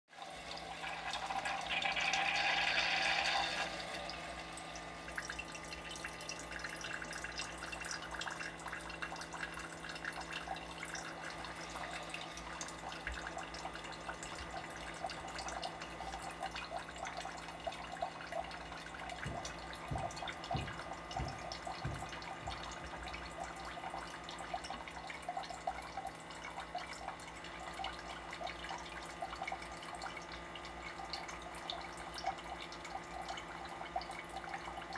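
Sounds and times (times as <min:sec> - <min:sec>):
pump hum: 0:00.1 - 0:34.9
water running and dripping: 0:00.2 - 0:34.9.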